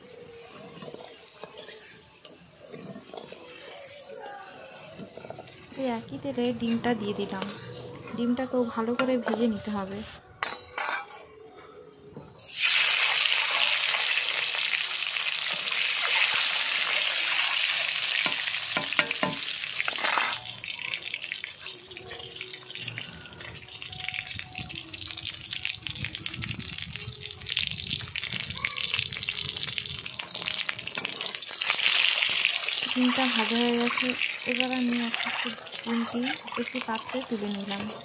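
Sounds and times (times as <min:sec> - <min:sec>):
eggs sizzling in hot oil: 0:00.0 - 0:08.2, 0:12.4 - 0:38.0.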